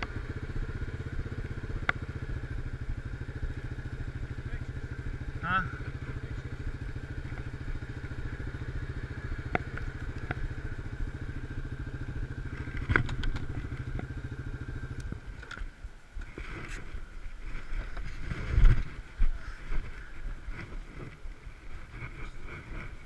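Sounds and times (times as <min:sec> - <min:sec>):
quad engine running: 0:00.0 - 0:23.0.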